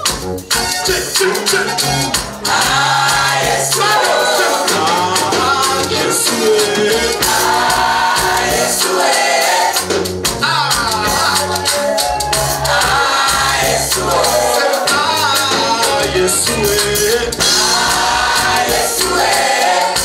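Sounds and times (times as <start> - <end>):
bass: 0.0 - 20.0
percussion: 0.0 - 20.0
choir singing gospel: 0.6 - 20.0.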